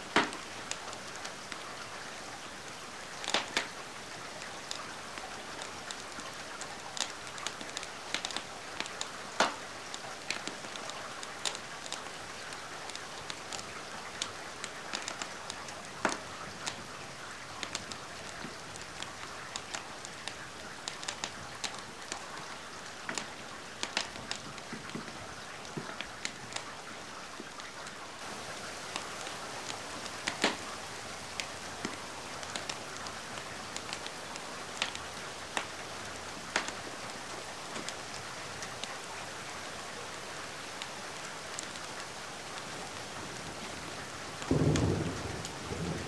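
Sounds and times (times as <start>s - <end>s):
steady rain hiss: 0.0s - 46.0s
wood fire crackling and popping: 0.1s - 1.7s, 3.2s - 16.9s, 17.6s - 26.8s, 28.2s - 39.0s, 40.6s - 43.8s.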